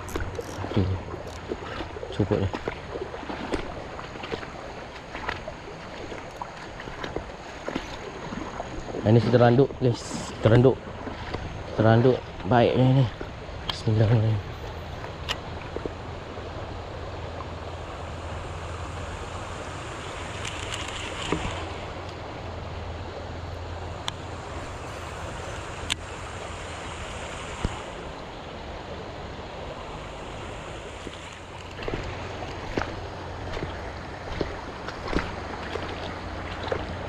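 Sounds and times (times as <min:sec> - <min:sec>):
water sloshing around wading legs: 0:00.0 - 0:18.3, 0:19.9 - 0:37.0
steady low hum: 0:00.0 - 0:37.0.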